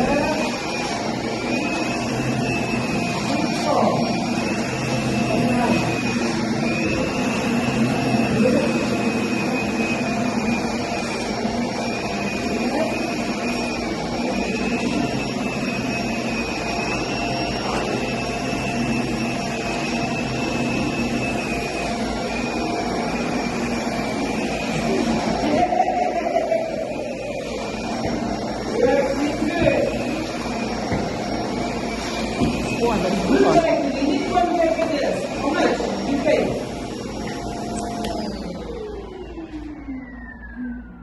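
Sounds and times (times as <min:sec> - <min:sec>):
vacuum cleaner on carpet: 0:00.0 - 0:41.0.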